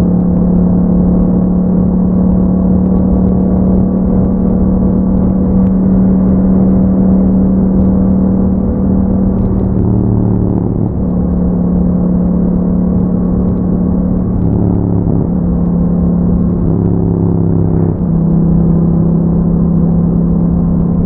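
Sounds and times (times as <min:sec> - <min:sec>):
motorcycle engine at steady speed: 0:00.0 - 0:21.0.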